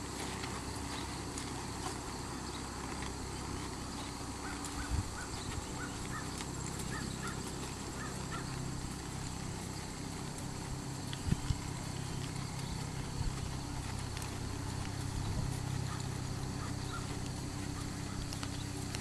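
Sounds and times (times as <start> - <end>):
hoofbeats on dirt: 0.0 - 19.0
outdoor noise: 0.0 - 19.0.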